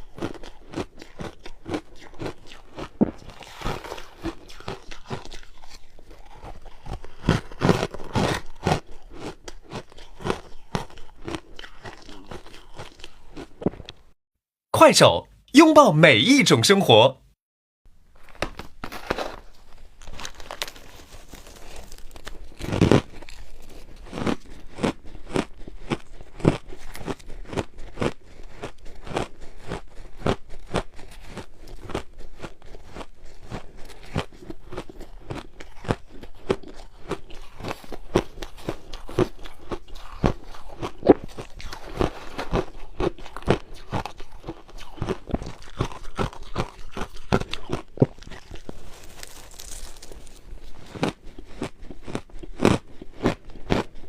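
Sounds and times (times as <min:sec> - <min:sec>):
ice crunching being chewed: 0:00.0 - 0:14.1, 0:18.4 - 0:54.0.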